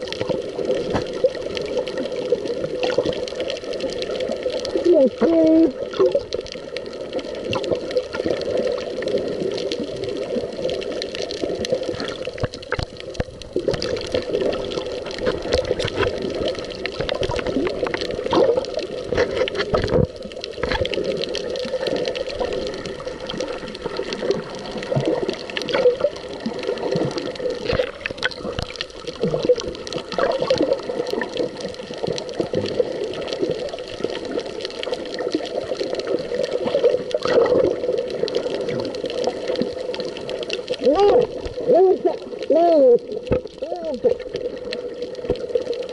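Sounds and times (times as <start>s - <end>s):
crackles and clicks: 0.0s - 45.9s
muffled underwater rushing: 0.0s - 45.9s.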